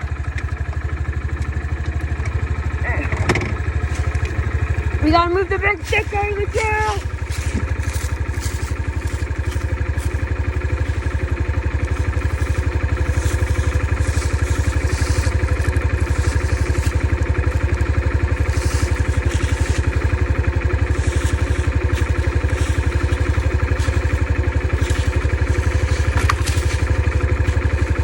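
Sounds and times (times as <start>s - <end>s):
dirt bike engine idling: 0.0s - 28.0s.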